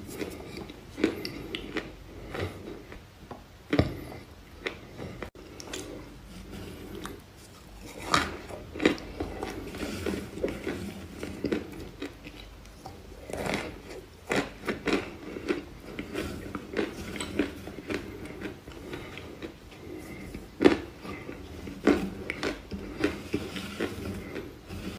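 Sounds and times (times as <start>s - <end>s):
crunching and chewing clay: 0.0s - 3.0s, 3.7s - 24.9s.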